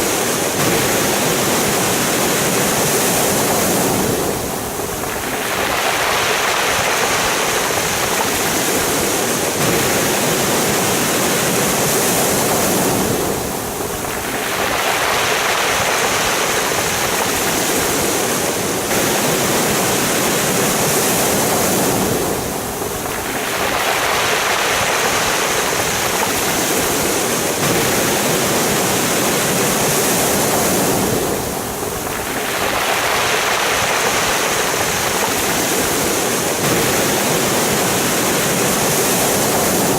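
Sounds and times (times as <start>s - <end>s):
waves washing over pebbles: 0.0s - 39.9s.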